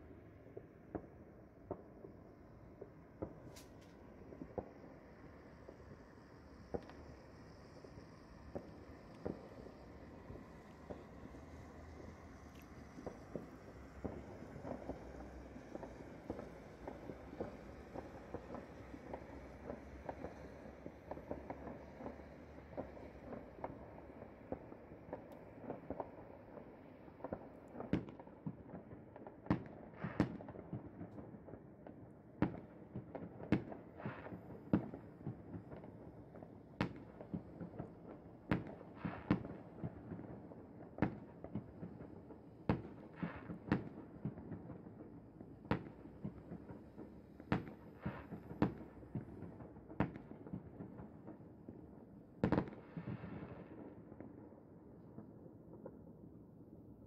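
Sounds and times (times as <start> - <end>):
fireworks bangs and pops: 0.0 - 56.3
firework crackle: 0.0 - 56.4.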